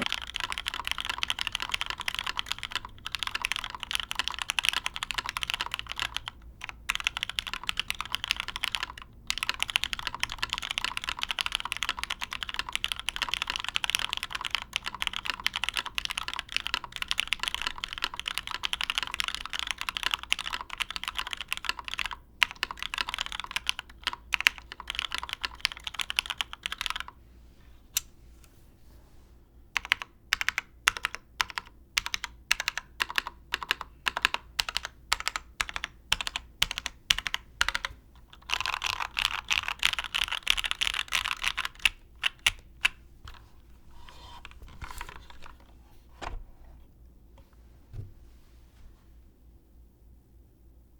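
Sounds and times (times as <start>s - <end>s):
typing on mechanical keyboard: 0.0s - 27.2s, 29.8s - 43.5s.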